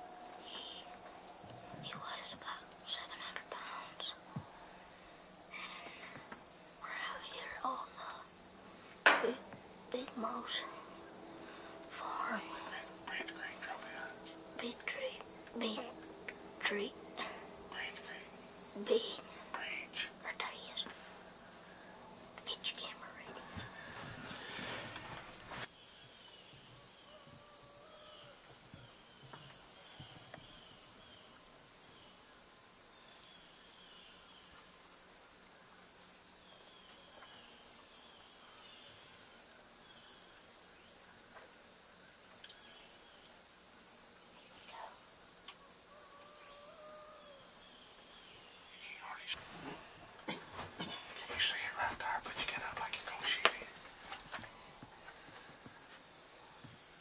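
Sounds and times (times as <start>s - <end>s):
faint chirps: 0.0s - 34.7s, 44.3s - 57.0s
insects chorus: 0.0s - 57.0s.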